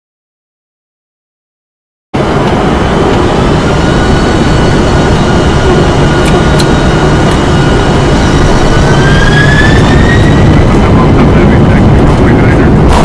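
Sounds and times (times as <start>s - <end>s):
aircraft engine rumble: 2.2s - 13.0s
high engine whine: 2.2s - 13.0s.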